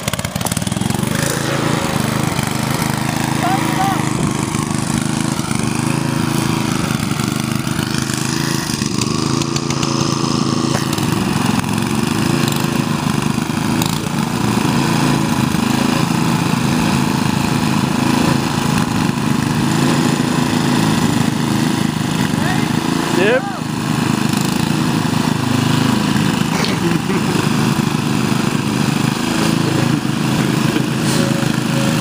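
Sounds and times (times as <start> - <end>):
lawn tractor engine running: 0.0 - 32.0.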